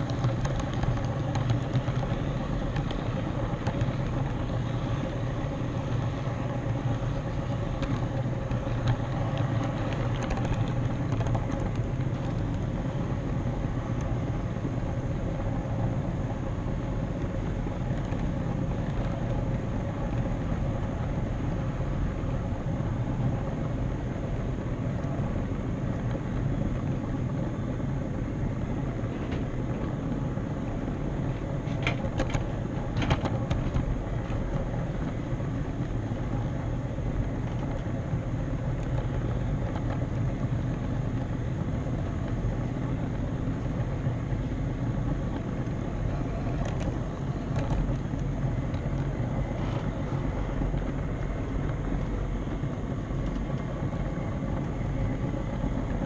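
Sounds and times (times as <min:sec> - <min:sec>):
model train wheels rumbling on rails: 0:00.0 - 0:56.0
train clicking over rail joints: 0:00.0 - 0:56.0.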